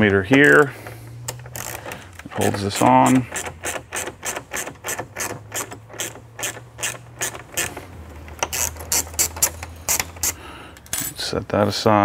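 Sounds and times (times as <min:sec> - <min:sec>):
hand ratchet clicking: 0:00.0 - 0:11.1.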